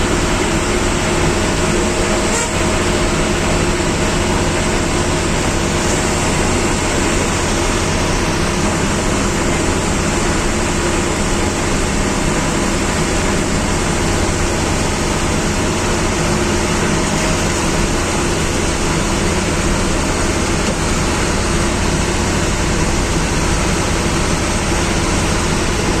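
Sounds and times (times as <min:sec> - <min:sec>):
bus engine running: 0:00.0 - 0:26.0
road and cabin rattle: 0:00.0 - 0:26.0.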